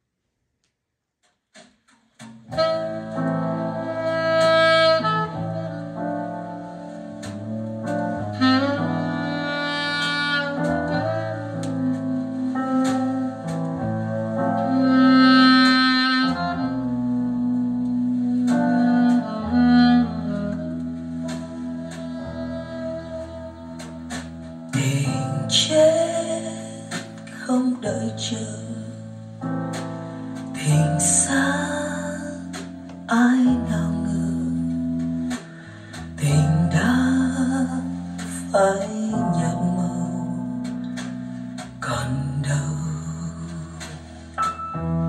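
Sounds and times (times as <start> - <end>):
instrumental music over speakers: 1.2 - 45.0.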